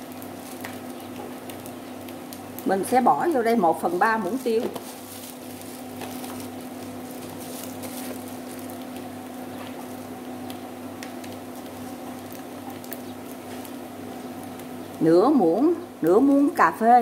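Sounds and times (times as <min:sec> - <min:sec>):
rice sizzling in a pan: 0:00.0 - 0:17.0.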